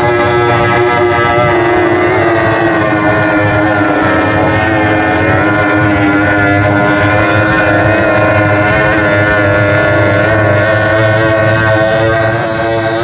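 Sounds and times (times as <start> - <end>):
high-pitched outboard engine drone: 0.0 - 13.0.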